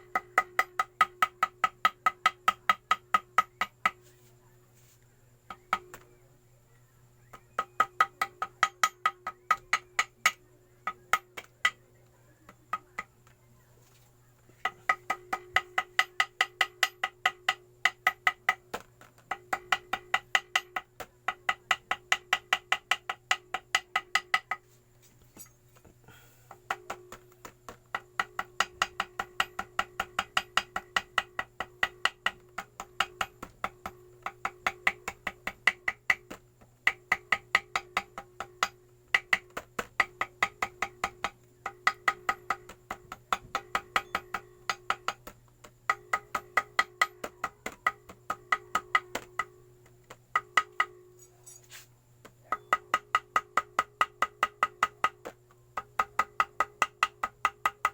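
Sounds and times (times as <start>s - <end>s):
hammer tapping on metal: 0.0s - 4.1s, 5.5s - 6.1s, 7.2s - 13.4s, 14.6s - 51.6s, 52.2s - 57.9s.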